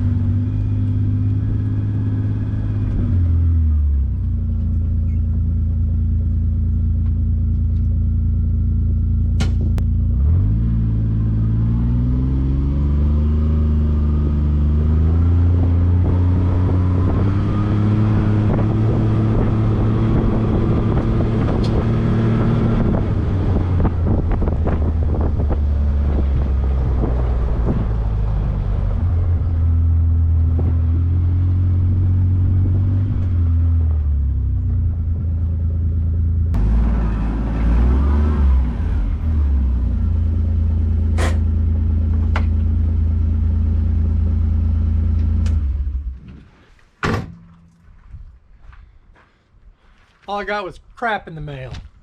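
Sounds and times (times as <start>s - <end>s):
utility vehicle engine running: 0.0s - 46.5s.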